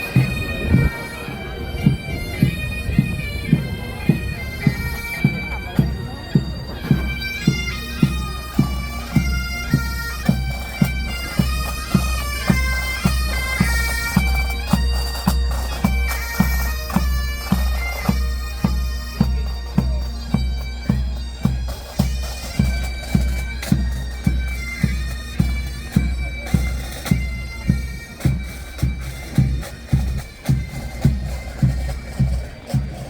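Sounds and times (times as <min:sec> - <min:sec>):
bagpipes playing a march: 0:00.0 - 0:33.0.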